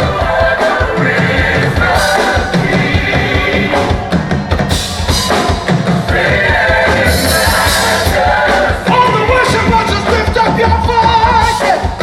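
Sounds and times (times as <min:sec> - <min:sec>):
drum kit kick and snare hits: 0:00.0 - 0:12.0
gospel band playing: 0:00.0 - 0:12.0.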